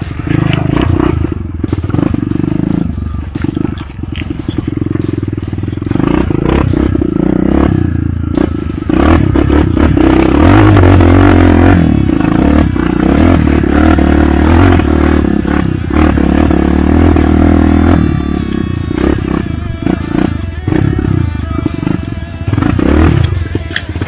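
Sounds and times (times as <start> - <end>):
motorcycle engine running: 0.0 - 24.0
motorcycle rattling and knocking: 0.0 - 24.0.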